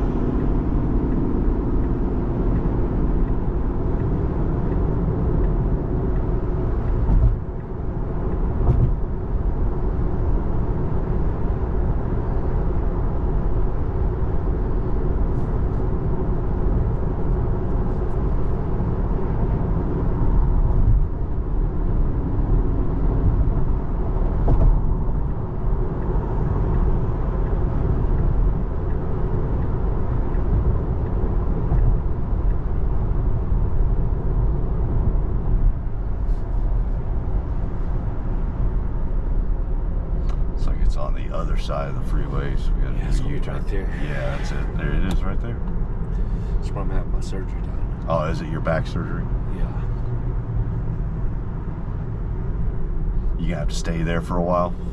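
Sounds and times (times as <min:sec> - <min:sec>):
road and tyre noise in car: 0:00.0 - 0:54.9.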